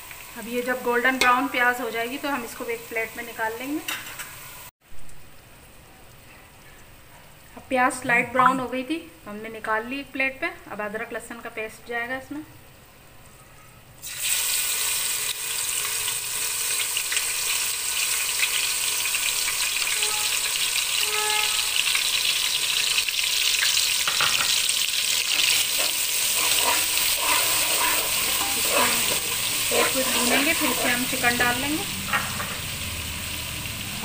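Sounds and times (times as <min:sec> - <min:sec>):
oil sizzling and crackling: 0:00.0 - 0:07.5, 0:14.0 - 0:34.0.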